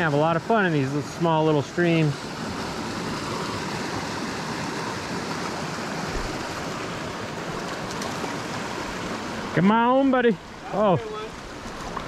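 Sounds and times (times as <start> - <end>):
stream flowing over rocks: 0.0 - 12.0.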